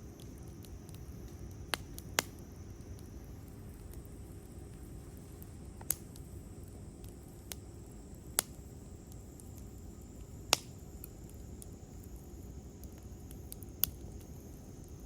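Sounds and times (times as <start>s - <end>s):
campfire crackling: 0.0s - 15.0s
sharp pops of fire: 0.1s - 14.6s.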